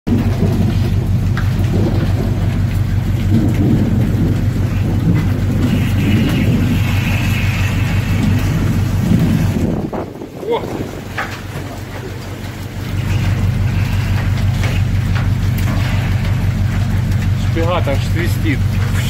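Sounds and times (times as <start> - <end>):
rain and spray on deck: 0.1 - 19.0
wind buffeting microphone: 0.1 - 19.0.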